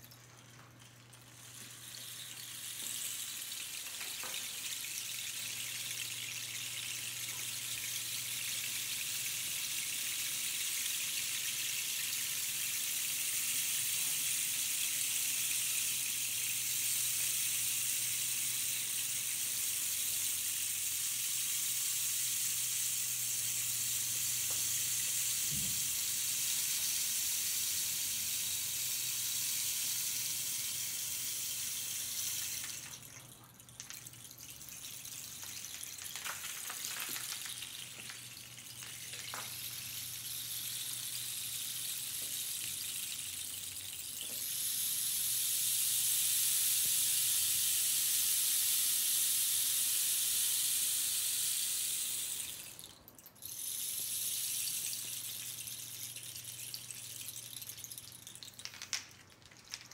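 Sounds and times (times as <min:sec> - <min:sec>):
rainstick trickling hiss: 0:00.0 - 0:59.9.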